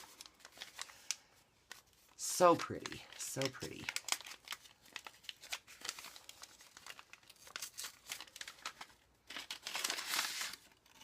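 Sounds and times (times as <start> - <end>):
paper and packaging crinkling: 0.0 - 11.0.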